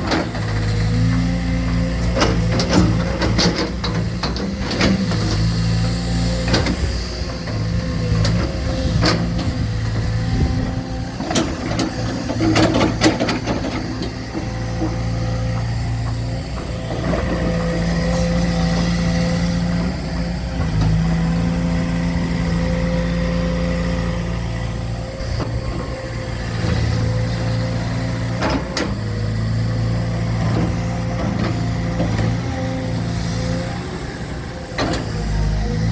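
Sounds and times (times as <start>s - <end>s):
construction machinery engine running: 0.0s - 35.9s.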